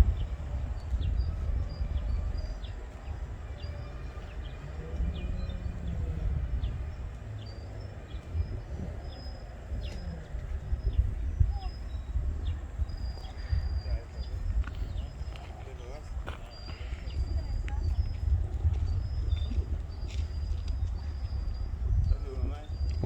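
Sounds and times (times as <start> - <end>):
small birds chirping: 0.0 - 23.0
steady low rumble: 0.0 - 23.0.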